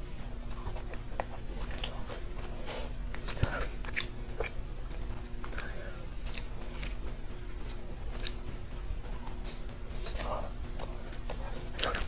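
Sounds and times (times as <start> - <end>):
steady low hum: 0.0 - 12.0
close chewing: 0.5 - 2.4, 3.1 - 8.4, 9.2 - 12.0.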